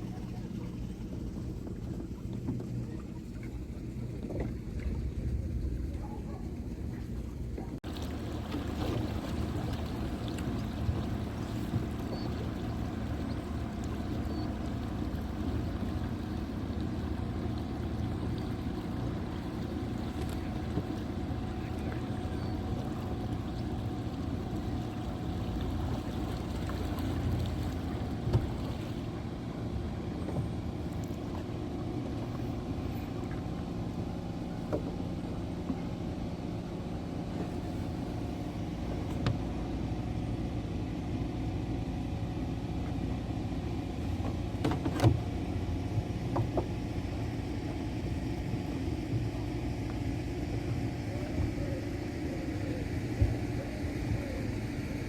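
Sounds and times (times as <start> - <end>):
boat motor rumbling: 0.0 - 55.0.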